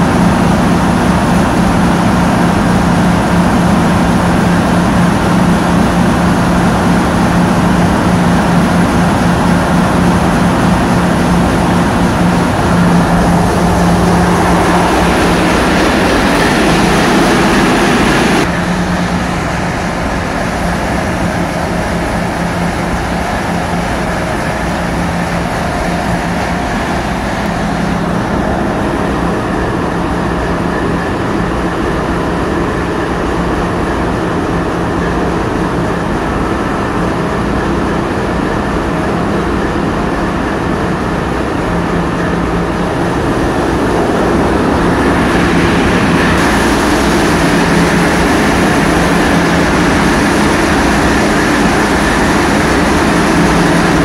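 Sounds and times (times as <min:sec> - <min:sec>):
boat diesel engines droning: 0:00.0 - 0:54.0
rushing noise: 0:00.0 - 0:54.0.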